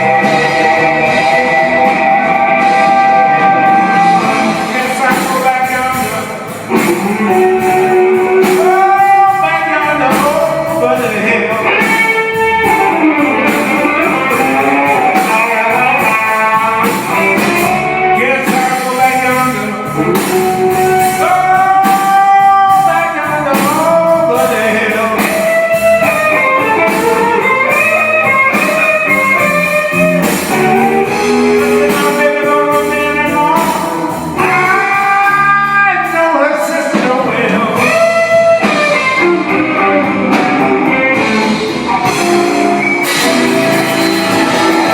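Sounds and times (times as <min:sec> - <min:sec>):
electric guitar solo: 0:00.0 - 0:23.3, 0:23.9 - 0:36.5, 0:37.5 - 0:44.9.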